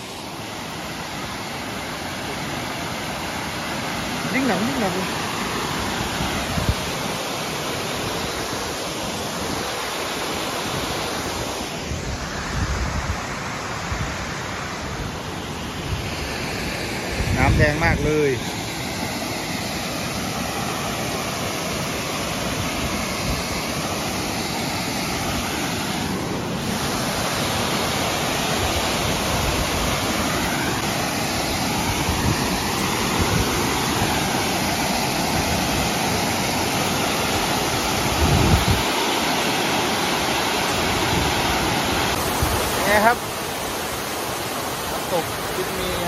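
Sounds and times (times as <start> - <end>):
stream and waterfall rushing: 0.0 - 46.0.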